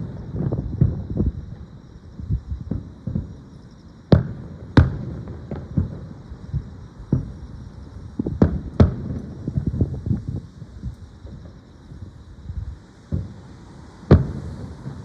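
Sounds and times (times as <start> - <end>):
fireworks booms and cracks: 0.0 - 15.0.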